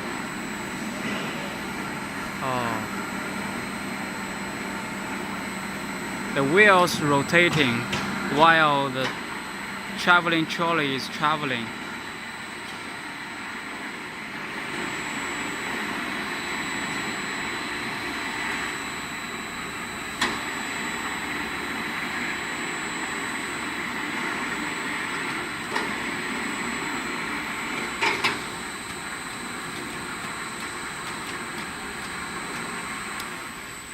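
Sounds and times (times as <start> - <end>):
thin high whine: 0.0 - 33.9
welding rotator mechanical noise: 0.0 - 33.9.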